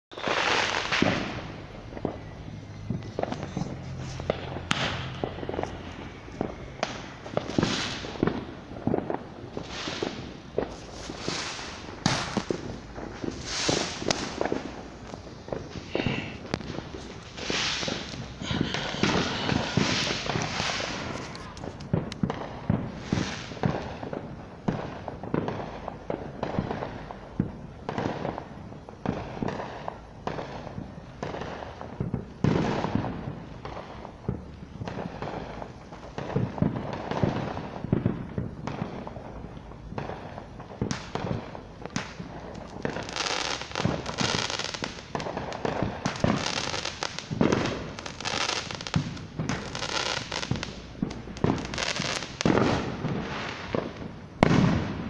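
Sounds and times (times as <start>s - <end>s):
fireworks bangs and pops: 0.1s - 55.0s.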